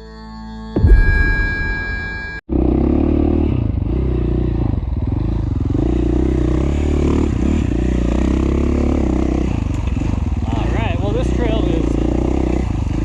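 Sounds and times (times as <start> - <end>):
dirt bike engine running: 2.5 - 13.0.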